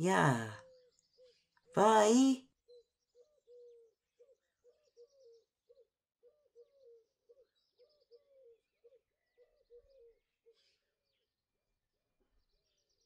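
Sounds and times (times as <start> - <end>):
small birds chirping and trilling: 0.0 - 11.5, 12.3 - 13.0.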